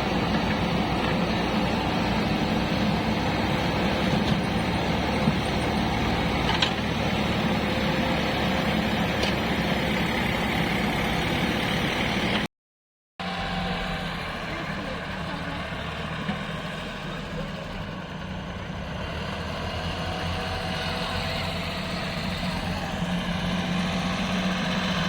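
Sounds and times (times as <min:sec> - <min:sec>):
heavy diesel engine running: 0:00.0 - 0:12.5, 0:13.2 - 0:25.0.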